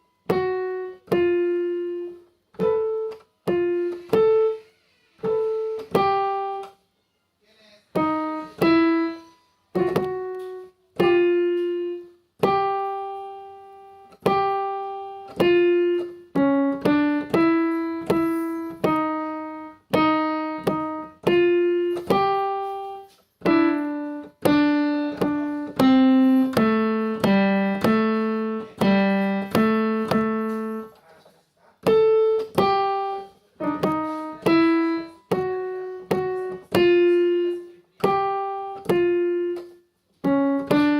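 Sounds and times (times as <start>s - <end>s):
slow piano melody: 0.0s - 7.0s, 7.9s - 31.0s, 31.8s - 40.9s.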